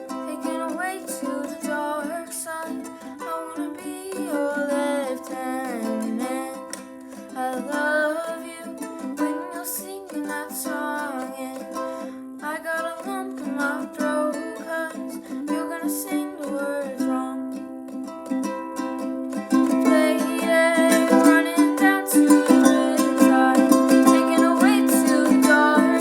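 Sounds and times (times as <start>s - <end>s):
ukulele strumming: 0.0s - 26.0s.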